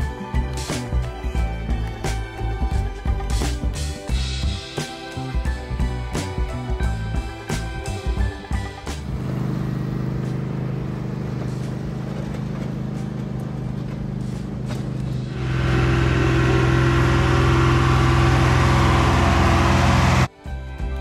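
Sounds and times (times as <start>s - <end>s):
engine running: 0.0s - 20.3s.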